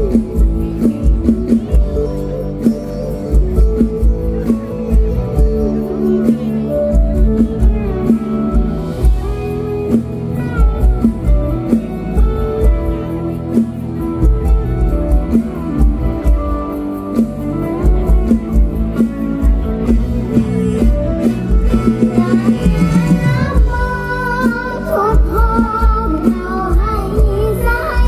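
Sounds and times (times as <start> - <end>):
guitar-led instrumental music: 0.0 - 28.0.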